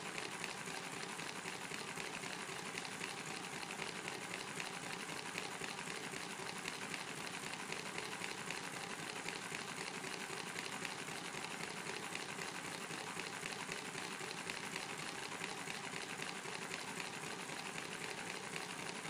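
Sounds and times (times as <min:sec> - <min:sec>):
model engine clattering: 0:00.1 - 0:19.0.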